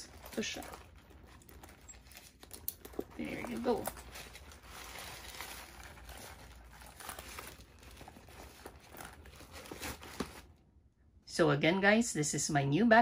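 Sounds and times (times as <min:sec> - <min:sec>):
tissue paper rustling: 0:00.0 - 0:10.6.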